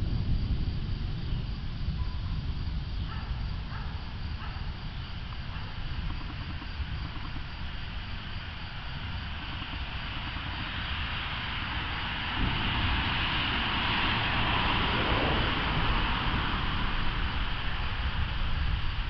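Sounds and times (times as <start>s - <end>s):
wind buffeting microphone: 0.0s - 19.0s
wind rushing through leaves: 0.0s - 19.0s.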